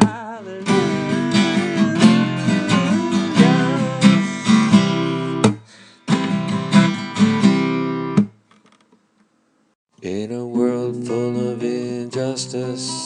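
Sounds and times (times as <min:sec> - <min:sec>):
acoustic guitar strumming: 0:00.0 - 0:08.4, 0:10.4 - 0:13.0.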